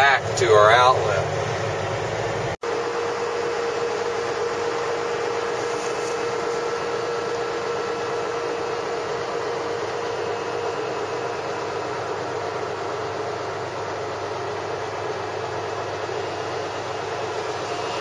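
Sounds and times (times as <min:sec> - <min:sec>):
tractor machine noise with whine: 0:00.0 - 0:18.0.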